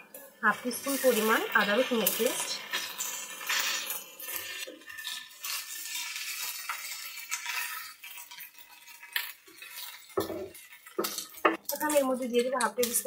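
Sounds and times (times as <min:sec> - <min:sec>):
onions frying in oil: 0:00.3 - 0:13.0.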